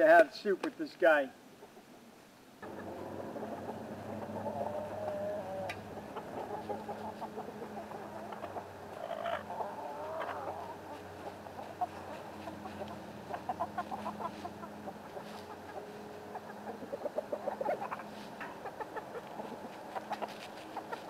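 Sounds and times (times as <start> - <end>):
chickens clucking: 1.4 - 21.0
drawn-out chicken call: 2.6 - 21.0.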